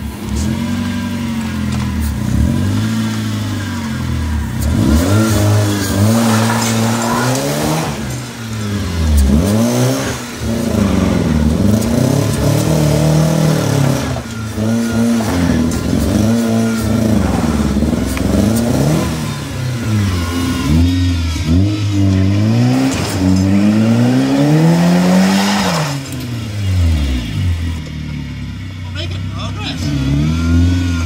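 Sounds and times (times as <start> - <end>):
car engine revving hard: 0.0 - 28.4, 29.7 - 31.0.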